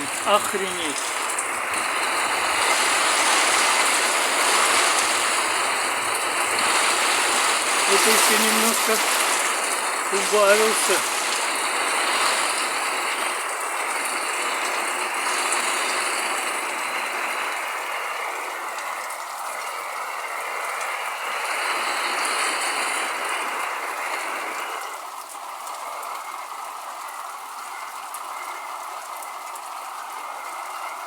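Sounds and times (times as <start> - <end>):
heavy rain on a roof: 0.0 - 31.0.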